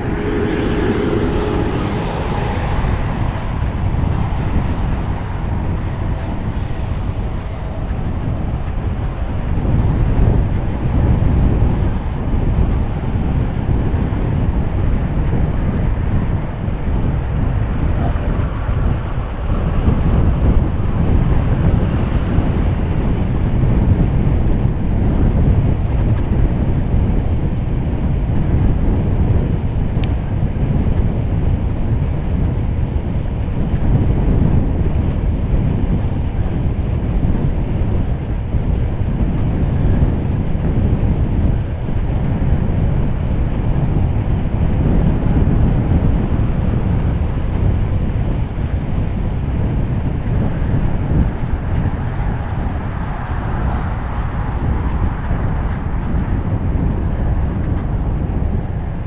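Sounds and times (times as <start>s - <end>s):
bicycle tyres on asphalt: 0.0s - 59.0s
wind buffeting microphone: 0.0s - 59.0s.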